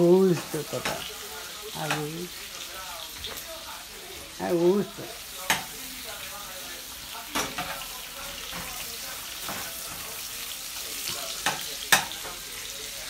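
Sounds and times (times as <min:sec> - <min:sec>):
sausages sizzling in a pan: 0:00.0 - 0:13.0.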